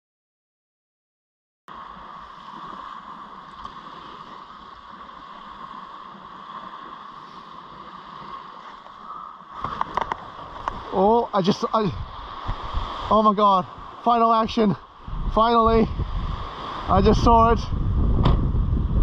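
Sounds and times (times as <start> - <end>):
surf: 1.7 - 19.0
wind: 1.7 - 19.0.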